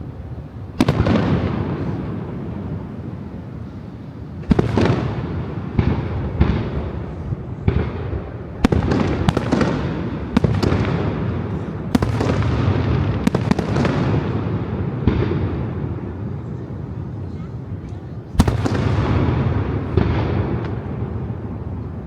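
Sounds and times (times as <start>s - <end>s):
fireworks bangs: 0.4s - 22.0s.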